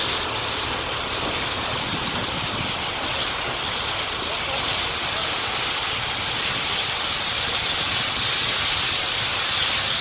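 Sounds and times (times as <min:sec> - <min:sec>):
gas hissing from fuel line: 0:00.0 - 0:10.0.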